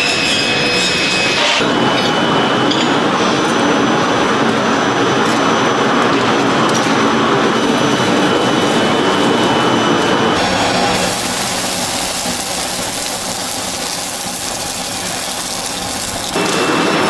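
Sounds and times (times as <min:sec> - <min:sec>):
loud workshop machinery noise: 0:00.0 - 0:17.0.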